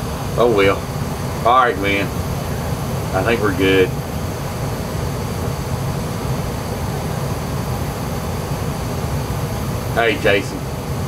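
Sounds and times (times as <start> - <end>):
gas furnace running: 0.0 - 11.0.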